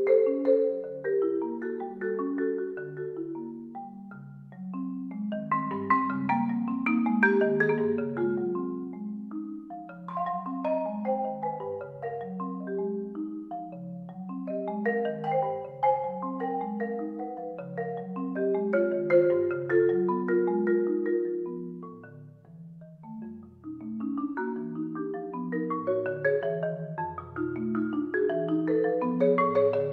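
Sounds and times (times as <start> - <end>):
marimba played with mallets: 0.0 - 29.9.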